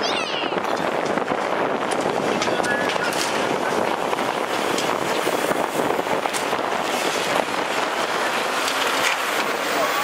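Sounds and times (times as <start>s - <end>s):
buses driving past: 0.5s - 10.0s.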